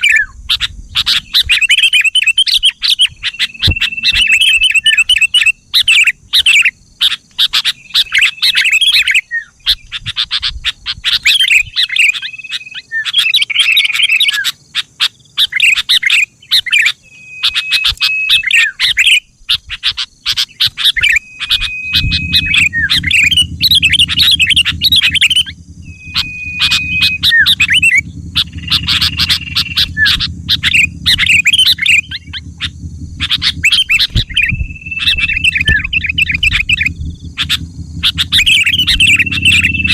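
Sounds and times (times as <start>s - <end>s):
steady low hum: 0.0s - 12.7s, 20.1s - 39.9s
bird singing bubbly phrases: 0.0s - 14.5s, 15.4s - 39.9s.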